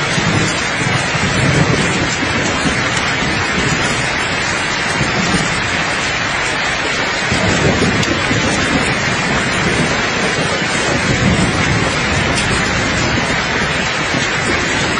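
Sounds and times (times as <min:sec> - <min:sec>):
light thunder rumbling: 0:00.0 - 0:14.9
steady rain falling: 0:00.0 - 0:14.9.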